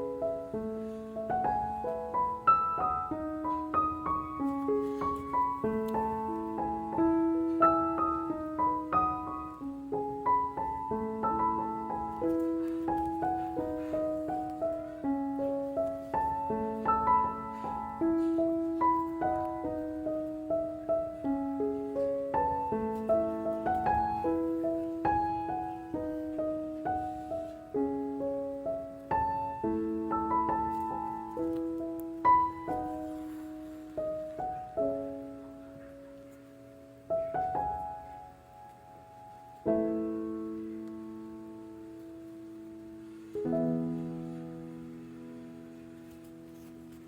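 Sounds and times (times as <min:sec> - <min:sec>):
gentle piano melody: 0:00.0 - 0:47.0.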